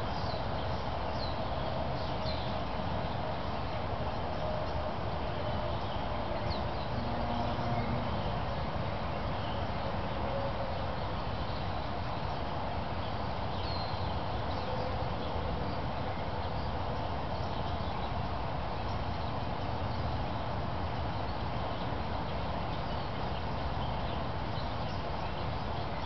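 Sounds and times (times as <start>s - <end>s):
even rumble and hiss: 0.0s - 26.0s.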